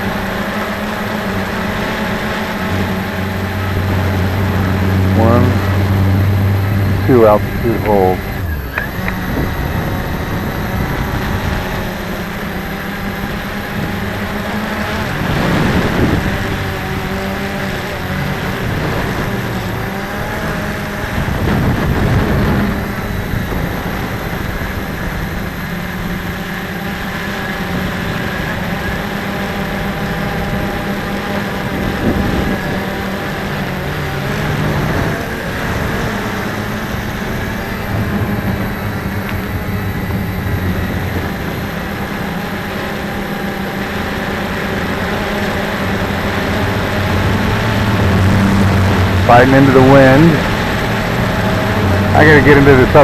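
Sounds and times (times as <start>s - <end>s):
drone propellers buzzing: 0.0s - 53.0s
wind gusts buffeting microphone: 1.2s - 26.3s, 29.7s - 53.0s.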